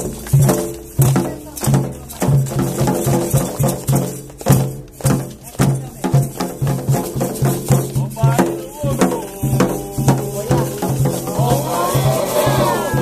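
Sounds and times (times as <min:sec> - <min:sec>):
drum-led music: 0:00.0 - 0:13.0
sharp clacking percussion: 0:00.0 - 0:13.0.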